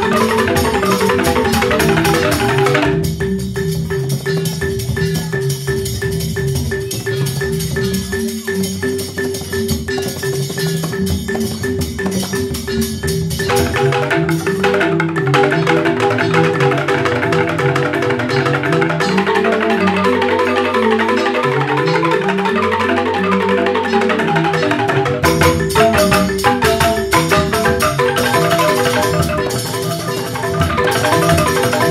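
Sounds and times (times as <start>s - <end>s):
bamboo xylophones struck fast: 0.0s - 31.9s.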